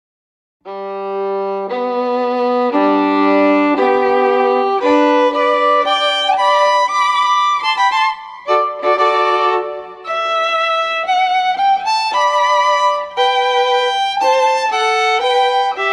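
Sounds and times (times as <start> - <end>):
violin melody: 0.7 - 15.9.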